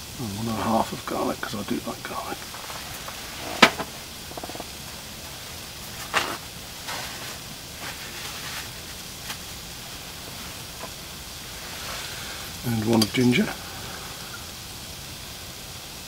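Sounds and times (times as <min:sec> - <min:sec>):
onions and peppers sizzling in oil: 0:00.0 - 0:16.0.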